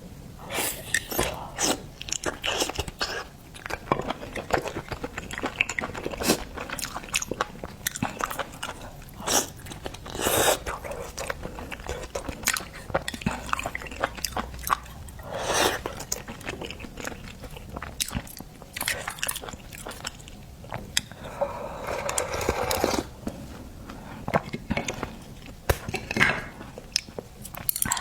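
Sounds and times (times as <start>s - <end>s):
person chewing seafood: 0.5s - 28.0s.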